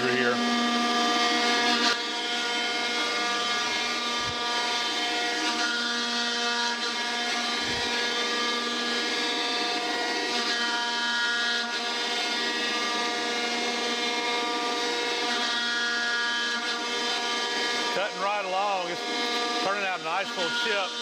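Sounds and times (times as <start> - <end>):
planer machine whining: 0.0 - 21.0.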